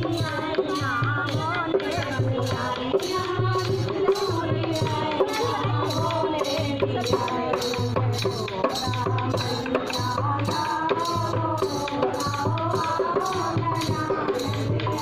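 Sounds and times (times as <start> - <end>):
hand drum beat: 0.0 - 15.0
rattling percussion: 0.0 - 15.0
women singing folk song: 0.0 - 15.0.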